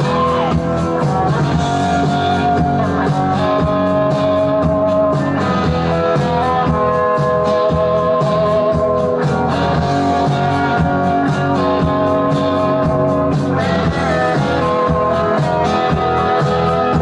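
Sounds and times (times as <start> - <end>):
guitar-driven rock song: 0.0 - 17.0.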